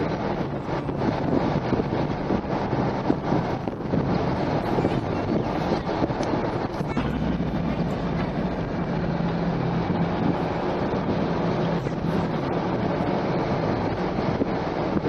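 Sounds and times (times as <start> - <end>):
car driving rumble and hiss: 0.0 - 15.0
low engine hum: 0.0 - 15.0.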